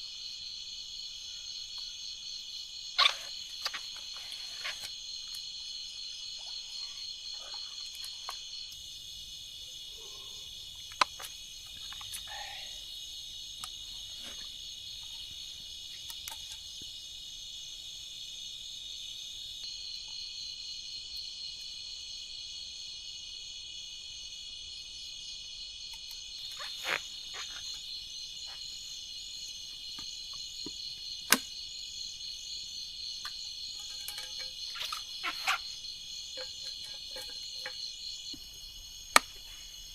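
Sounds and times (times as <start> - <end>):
insects and frogs chorus: 0.0 - 39.9.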